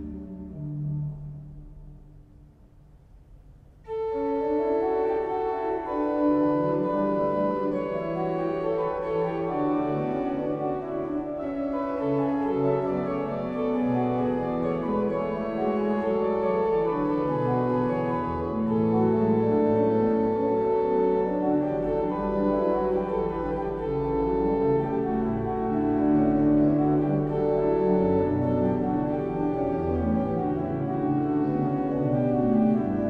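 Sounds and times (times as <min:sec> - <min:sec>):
pipe organ chord reverberation: 0:03.9 - 0:33.0
pipe organ playing held voices: 0:03.9 - 0:33.0.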